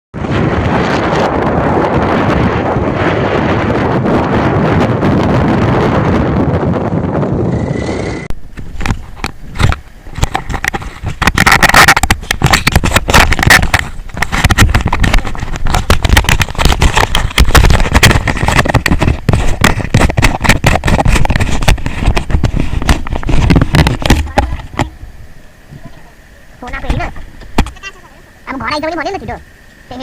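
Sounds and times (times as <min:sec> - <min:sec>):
wind buffeting microphone: 0:00.2 - 0:30.0.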